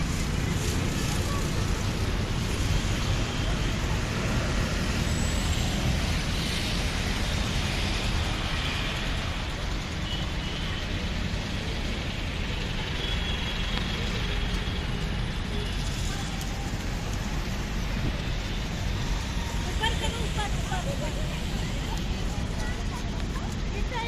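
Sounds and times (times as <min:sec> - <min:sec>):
low rumbling road traffic: 0:00.0 - 0:24.0.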